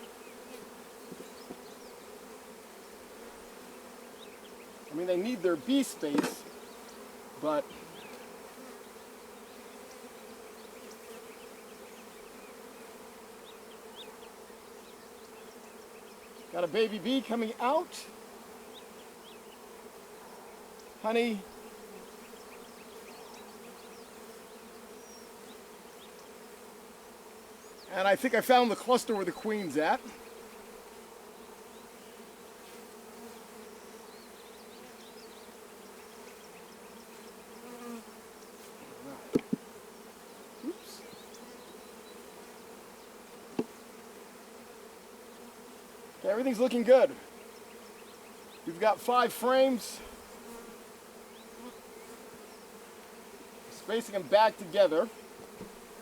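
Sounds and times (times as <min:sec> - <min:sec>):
honey bees buzzing: 0:00.0 - 0:56.0.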